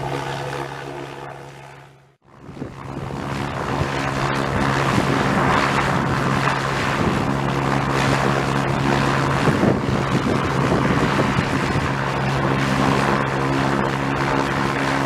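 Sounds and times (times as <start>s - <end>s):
propeller aircraft engine: 0.0s - 15.0s
wind noise on microphone: 2.2s - 15.0s.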